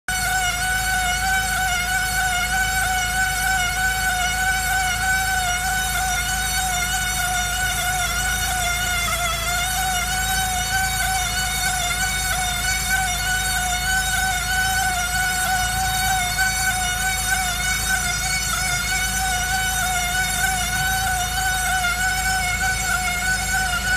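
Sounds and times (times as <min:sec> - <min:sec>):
high continuous squeal: 0:00.1 - 0:23.9
low running hum: 0:00.1 - 0:23.9.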